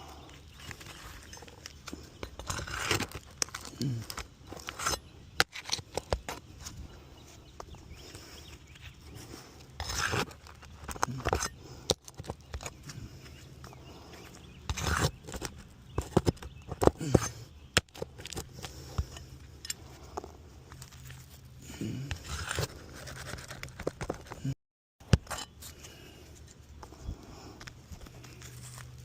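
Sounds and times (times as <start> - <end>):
scraping on shingle roof: 0.1 - 19.2, 19.9 - 24.5.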